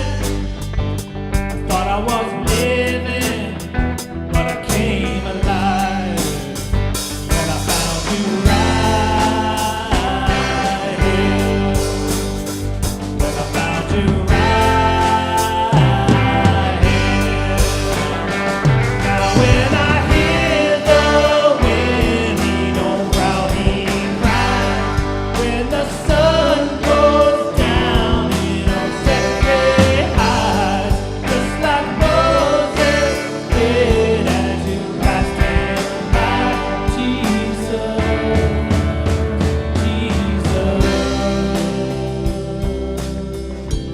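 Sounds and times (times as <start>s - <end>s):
rock worship band music: 0.0s - 43.9s.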